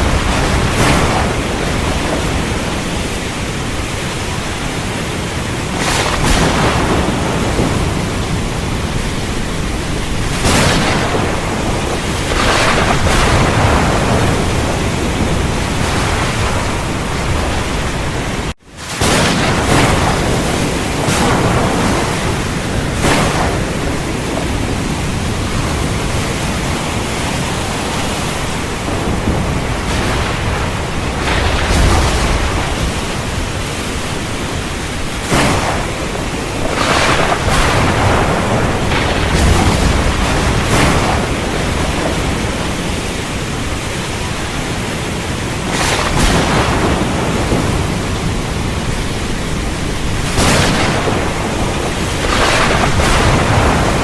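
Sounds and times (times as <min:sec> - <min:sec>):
heavy rain pouring: 0:00.0 - 0:54.0
thunder cracks and rumbles: 0:00.0 - 0:54.0.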